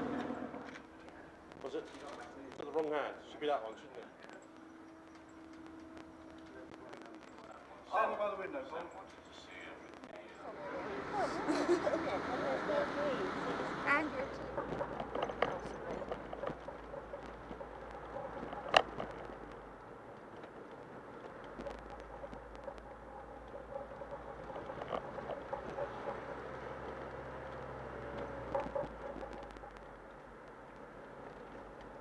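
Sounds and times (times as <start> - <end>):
car engine and road noise: 0.0 - 3.0, 9.0 - 32.0.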